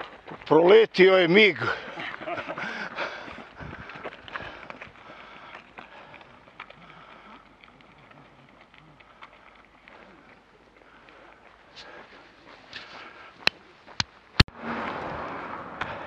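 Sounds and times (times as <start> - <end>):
footsteps on asphalt: 0.0 - 16.0.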